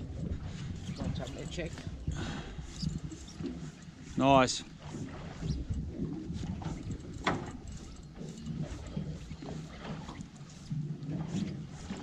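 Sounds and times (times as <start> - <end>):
water slapping boat hull: 0.0 - 12.0.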